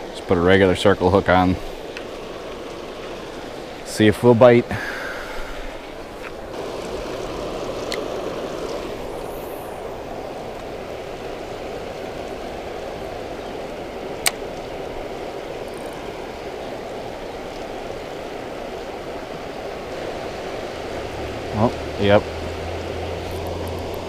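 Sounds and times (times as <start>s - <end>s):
water rushing over a spillway: 0.0s - 24.0s.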